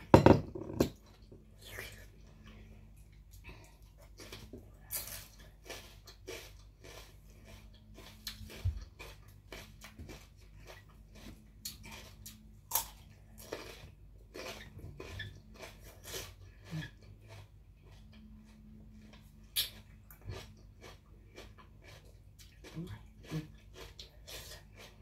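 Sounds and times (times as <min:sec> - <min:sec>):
chewing and biting food: 0:02.3 - 0:25.0.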